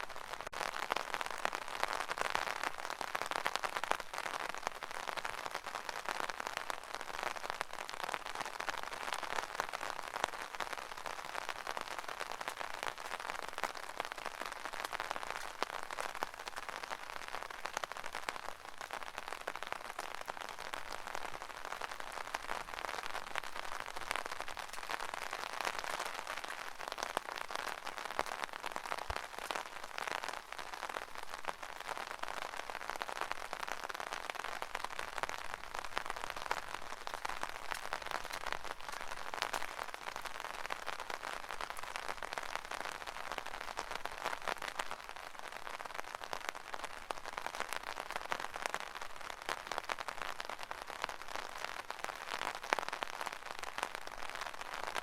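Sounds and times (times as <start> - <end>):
rain pattering on umbrella: 0.0 - 55.0.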